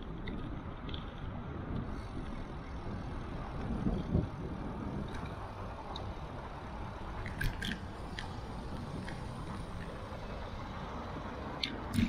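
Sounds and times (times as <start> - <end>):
bicycle tyres on asphalt: 0.0 - 12.0.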